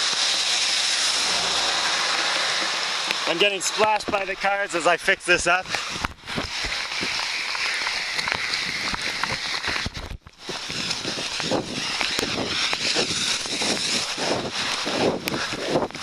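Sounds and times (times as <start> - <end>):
car tyres spraying on wet road: 0.0 - 16.0
heavy rain hissing: 0.0 - 16.0.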